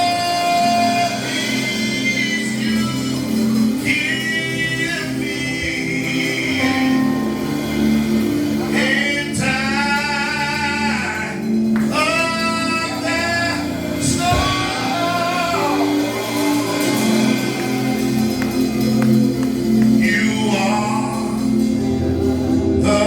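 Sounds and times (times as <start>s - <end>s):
gospel singing with instruments: 0.0s - 23.0s.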